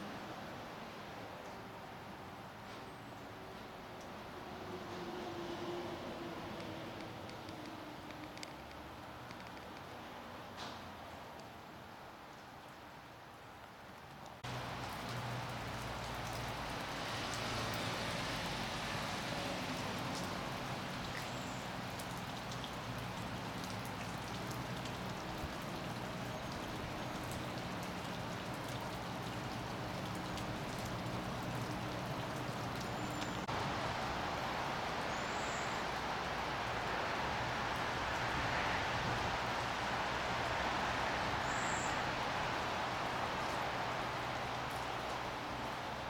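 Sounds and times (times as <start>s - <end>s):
rain falling on pavement and roofs: 0.0s - 46.0s.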